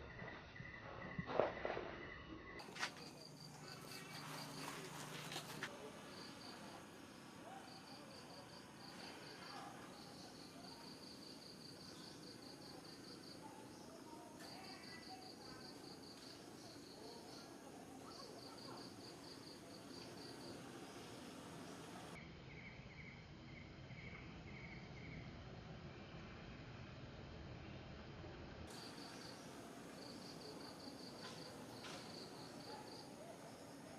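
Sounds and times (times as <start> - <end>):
insects chirping: 0.0 - 25.2, 28.7 - 33.9.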